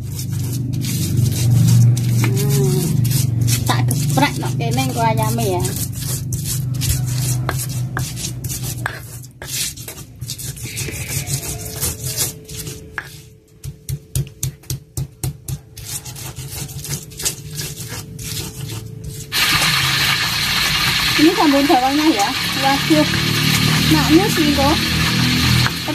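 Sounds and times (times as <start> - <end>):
stone pestle grinding in mortar: 0.0 - 25.9.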